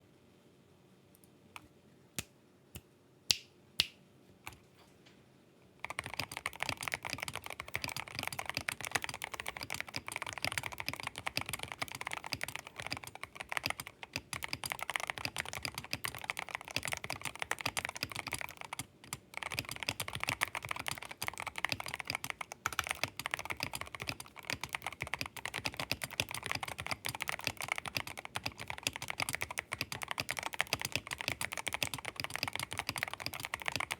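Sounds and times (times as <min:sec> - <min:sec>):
mechanical keyboard typing: 0:05.8 - 0:33.9.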